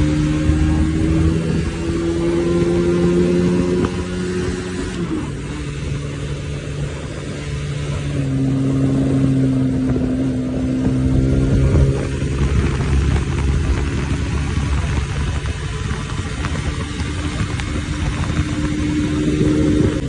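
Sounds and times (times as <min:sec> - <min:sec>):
motorcycle engine running at speed: 0:00.0 - 0:20.0.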